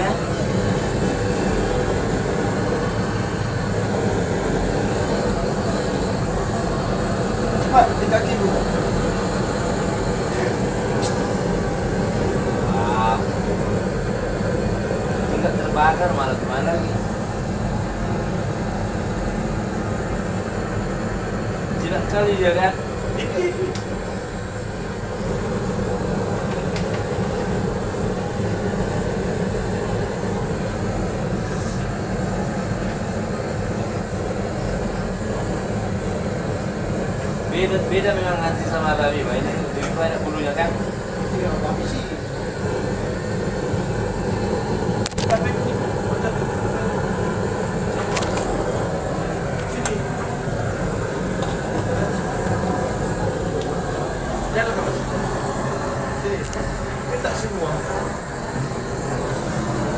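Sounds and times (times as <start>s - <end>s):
gas torch flame rushing: 0.0s - 59.9s.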